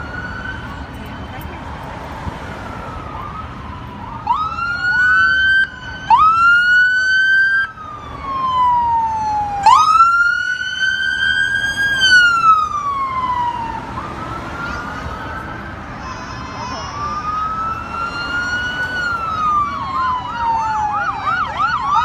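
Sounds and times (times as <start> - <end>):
police siren: 0.0 - 22.0.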